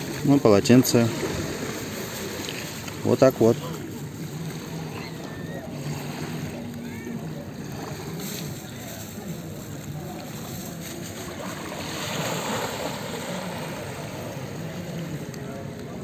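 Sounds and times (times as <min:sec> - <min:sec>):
small waves washing onto shore: 0:00.0 - 0:16.0.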